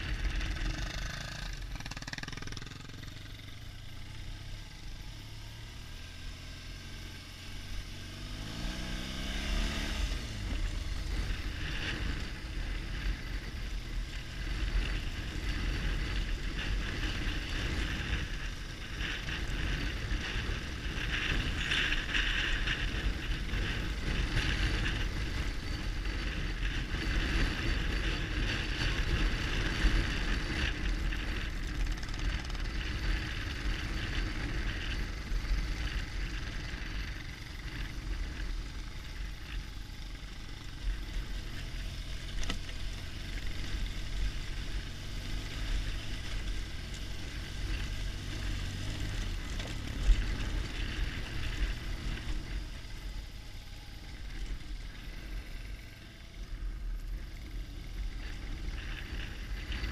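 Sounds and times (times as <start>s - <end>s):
motorcycle engine riding: 0.0s - 59.9s
wind rumbling on microphone: 0.0s - 59.9s.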